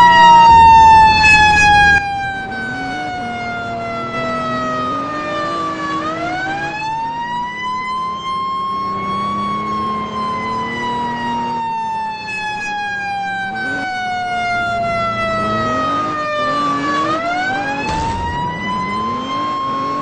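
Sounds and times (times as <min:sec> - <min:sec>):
fire truck siren wailing: 0:00.0 - 0:20.0.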